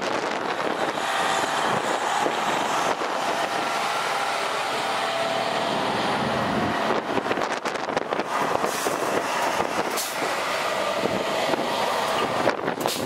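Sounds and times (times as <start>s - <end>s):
semi truck running: 0.0s - 13.0s
wind buffeting microphone: 0.0s - 13.0s.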